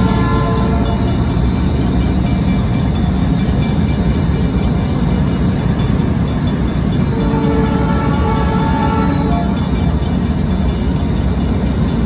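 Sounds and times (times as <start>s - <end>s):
crossing bell ringing rapidly: 0.0s - 12.0s
locomotive engine rumbling: 0.0s - 12.0s.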